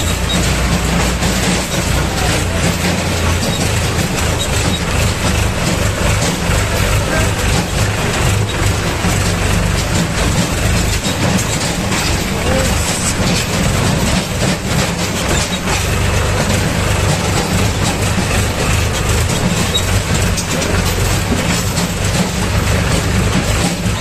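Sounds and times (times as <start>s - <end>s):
diesel engine running: 0.0s - 24.0s
machine clattering over stones: 0.0s - 24.0s.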